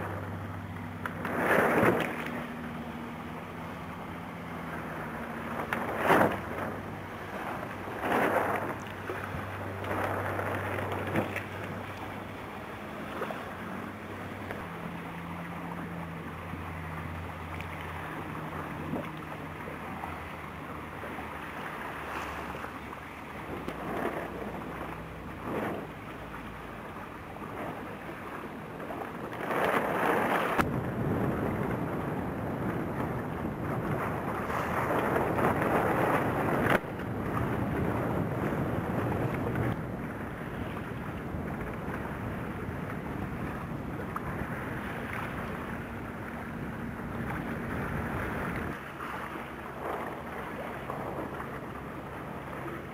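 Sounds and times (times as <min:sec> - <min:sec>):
wind buffeting microphone: 0:00.0 - 0:17.4, 0:26.9 - 0:52.9
low engine hum: 0:00.0 - 0:52.9
water splashing against hull: 0:00.0 - 0:52.9.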